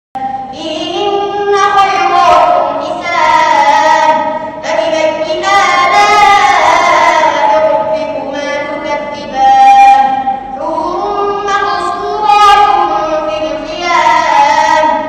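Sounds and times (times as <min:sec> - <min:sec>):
boy chanting melodically: 0:00.2 - 0:15.0.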